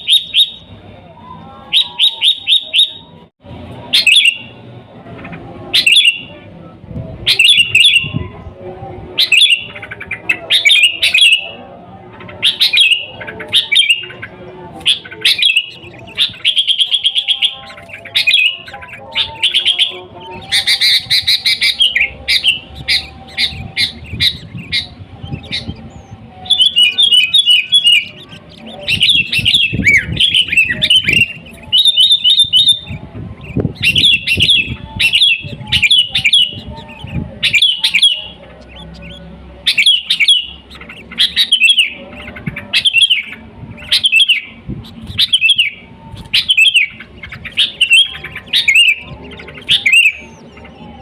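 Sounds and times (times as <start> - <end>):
bulbul singing: 0.0 - 51.0.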